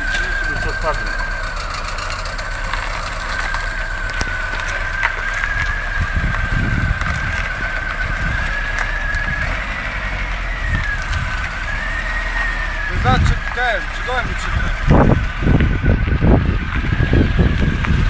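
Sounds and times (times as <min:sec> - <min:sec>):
car high-pitched whine: 0:00.0 - 0:18.0
car low rumble: 0:00.0 - 0:18.0.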